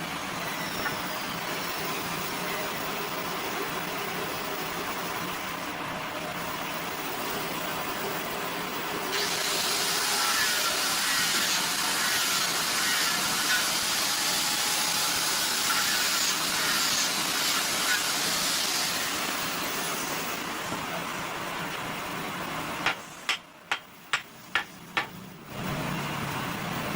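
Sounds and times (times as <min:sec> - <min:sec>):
workshop machine hissing: 0:00.0 - 0:26.9.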